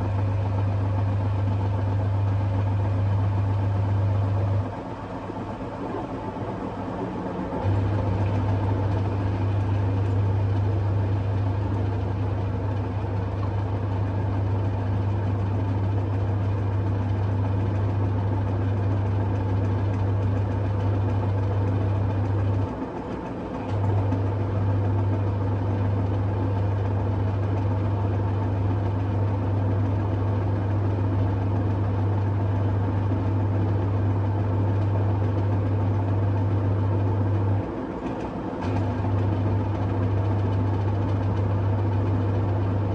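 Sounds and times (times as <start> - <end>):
drain pump humming: 0.0 - 42.9.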